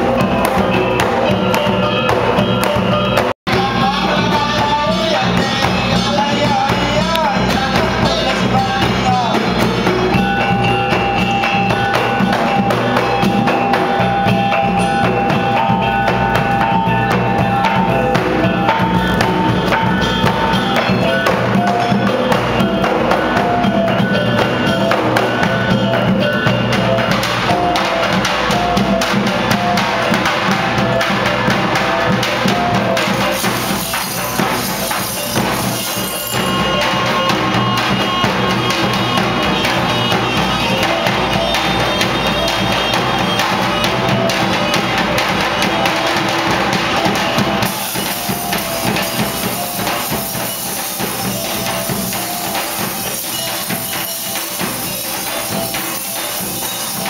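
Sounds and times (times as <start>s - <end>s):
large drums beating: 0.0s - 57.0s
melody of held notes: 0.0s - 57.0s.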